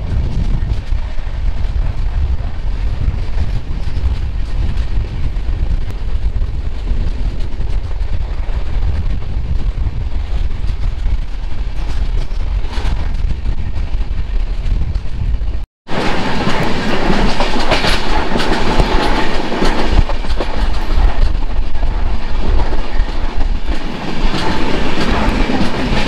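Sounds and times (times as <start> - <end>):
train running noise: 0.0 - 26.0
wind buffeting microphone: 0.0 - 26.0.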